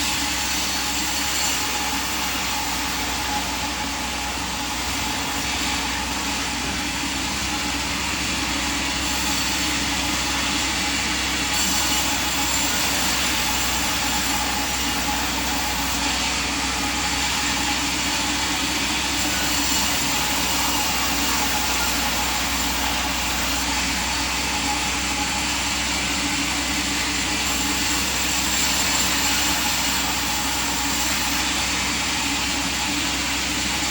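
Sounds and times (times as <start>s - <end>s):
machine running with hiss: 0.0s - 33.9s.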